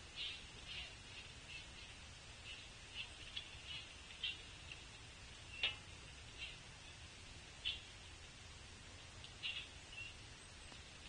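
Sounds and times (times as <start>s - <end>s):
small birds chip calls: 0.0s - 8.4s, 9.0s - 11.0s.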